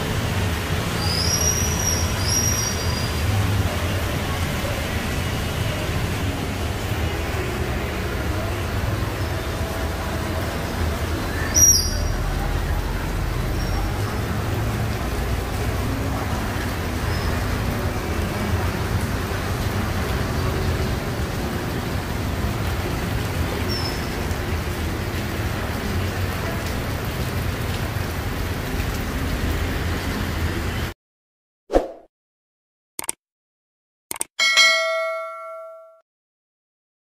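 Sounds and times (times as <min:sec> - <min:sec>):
heavy rain on wet street: 0:00.0 - 0:31.0
low rumble of traffic: 0:00.0 - 0:31.0.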